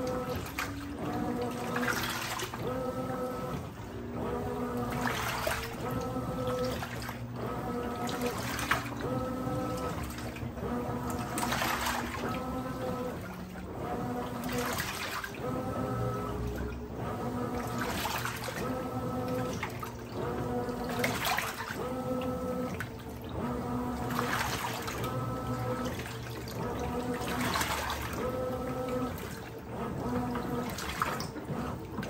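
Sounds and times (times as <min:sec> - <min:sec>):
water swashing: 0:00.0 - 0:03.5, 0:04.5 - 0:32.0
washing machine motor whine: 0:00.0 - 0:32.0.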